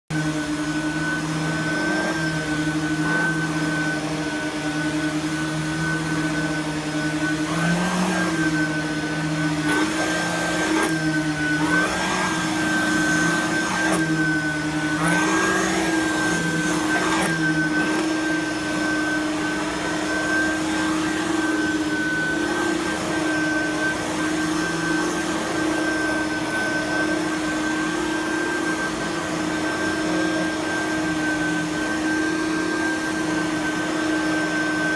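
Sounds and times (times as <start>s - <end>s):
upright vacuum running over carpet: 0.1s - 34.9s.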